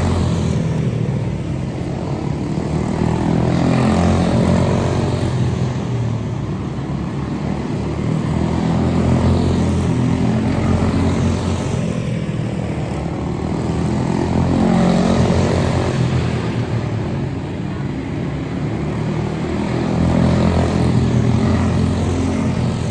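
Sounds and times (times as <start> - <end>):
small race car engines: 0.0 - 22.9.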